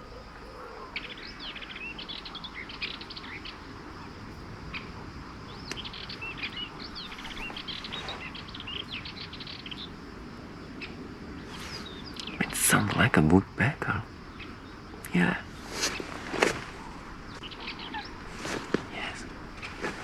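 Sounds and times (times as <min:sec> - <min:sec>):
outdoor background hiss: 0:00.0 - 0:20.0
songbirds chirping and singing: 0:00.0 - 0:20.0.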